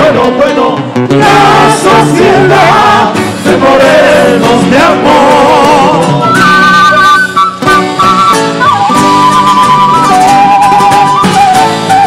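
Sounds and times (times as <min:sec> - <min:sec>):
folk dance music: 0:00.0 - 0:12.0.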